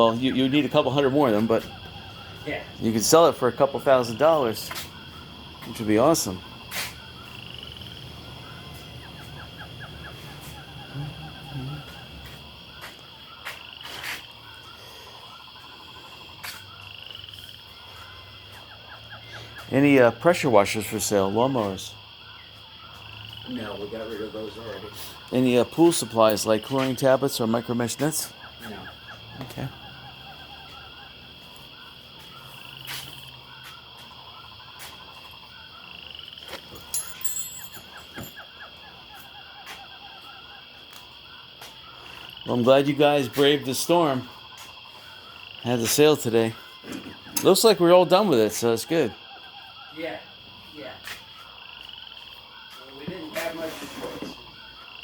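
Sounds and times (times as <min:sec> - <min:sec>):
high trilling animal calls: 0:00.0 - 0:55.0.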